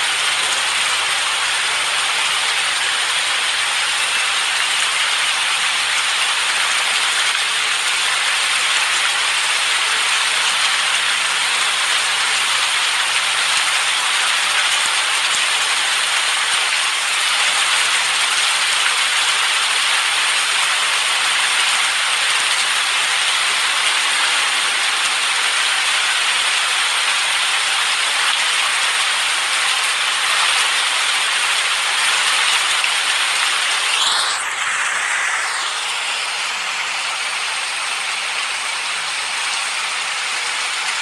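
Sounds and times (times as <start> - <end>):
dense rain hiss: 0.0 - 41.0.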